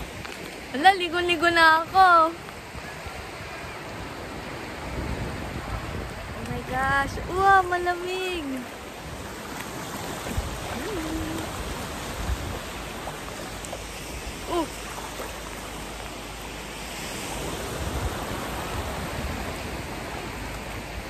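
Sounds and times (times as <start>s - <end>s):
sea water splashing: 0.0s - 21.0s.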